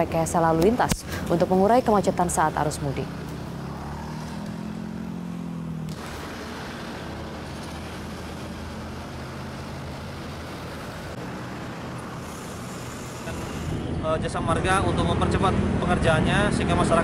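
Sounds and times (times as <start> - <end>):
engine drone: 0.0 - 17.0
highway traffic rushing: 0.0 - 17.0.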